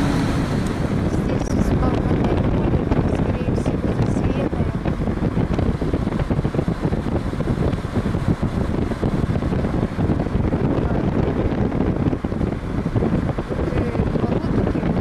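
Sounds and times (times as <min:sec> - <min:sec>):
car rumbling on asphalt: 0:00.0 - 0:15.0
wind buffeting microphone: 0:00.0 - 0:15.0.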